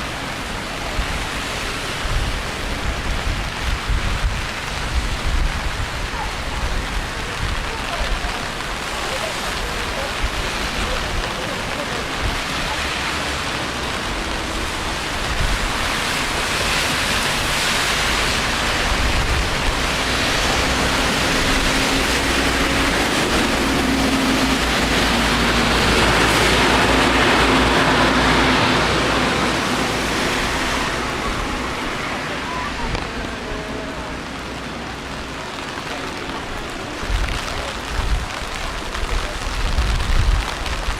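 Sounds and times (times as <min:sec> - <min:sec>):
rain hissing: 0:00.0 - 0:40.9
wet city street noise: 0:00.0 - 0:40.9.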